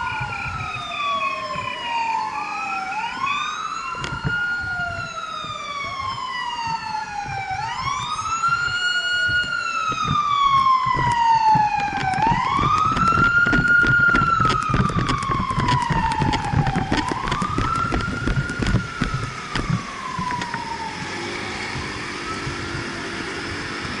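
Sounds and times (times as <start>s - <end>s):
engine and traffic rumble: 0.0s - 24.0s
fire truck siren wailing: 0.0s - 24.0s
second siren: 0.0s - 24.0s.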